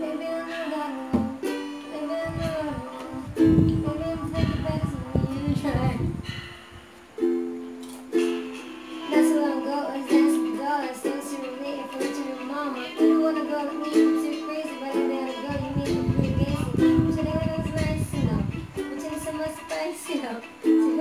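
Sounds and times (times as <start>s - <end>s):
ukulele strumming chords: 0.0s - 21.0s.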